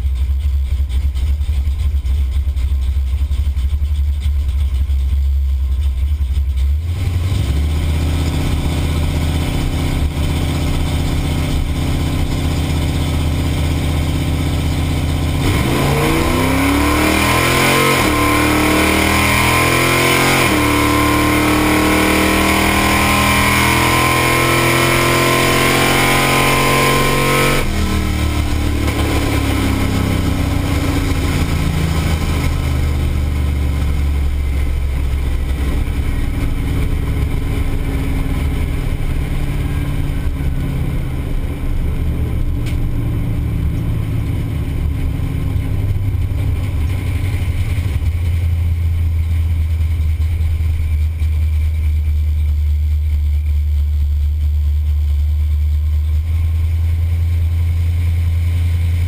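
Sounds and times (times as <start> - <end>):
car engine low rumble: 0.0 - 59.0
car engine winding down: 0.0 - 59.0.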